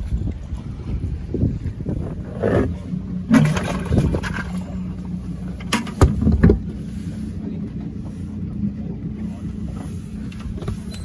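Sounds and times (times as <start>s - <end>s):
outboard motor idling: 0.0s - 11.0s
wind buffeting microphone: 0.0s - 11.0s.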